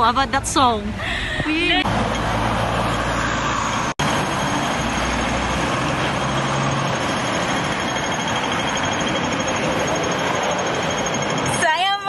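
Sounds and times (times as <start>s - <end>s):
road traffic: 0.0s - 12.0s
bus running close by: 1.7s - 12.0s
crossing signal ticking rapidly: 1.8s - 12.0s.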